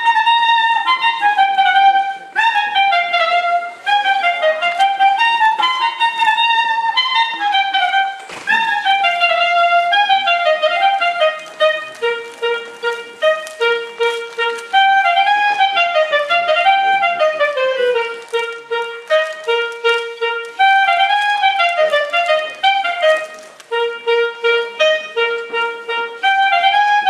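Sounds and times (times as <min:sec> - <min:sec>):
clarinet folk melody: 0:00.0 - 0:27.0.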